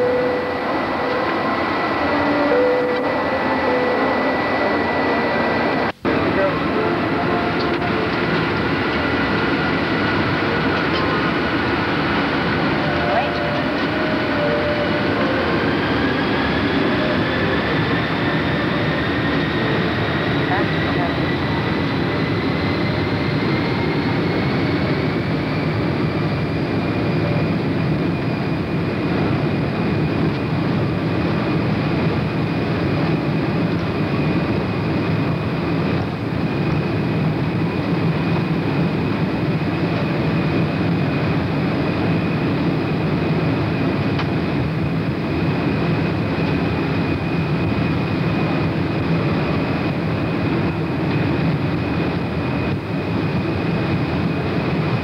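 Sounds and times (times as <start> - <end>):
jet engine cabin rumble and whine: 0.0 - 55.0.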